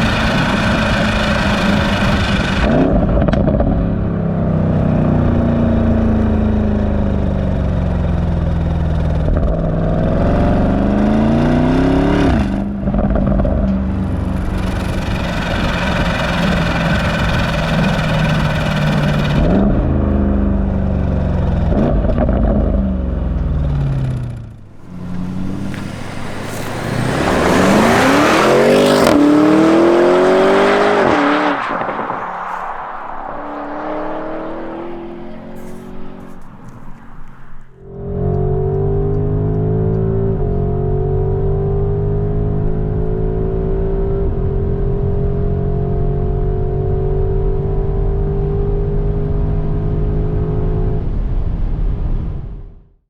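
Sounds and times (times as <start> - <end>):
car engine accelerating: 0.0 - 52.5.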